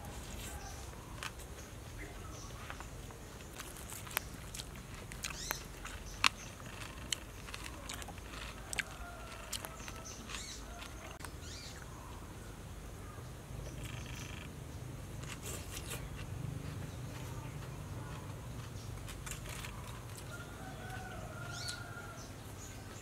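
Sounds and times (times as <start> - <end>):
person chewing crunchy food: 0.0 - 11.9, 15.2 - 22.0
low steady background noise: 0.0 - 23.0.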